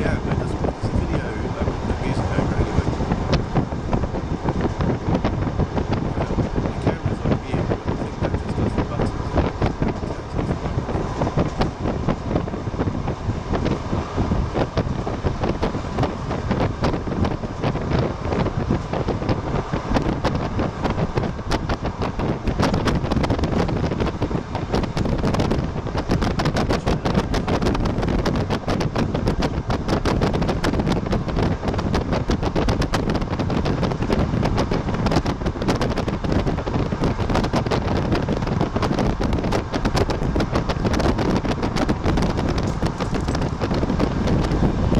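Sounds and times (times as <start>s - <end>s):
train clattering and rattling: 0.0s - 44.9s
train wheels rumbling on track: 0.0s - 44.9s.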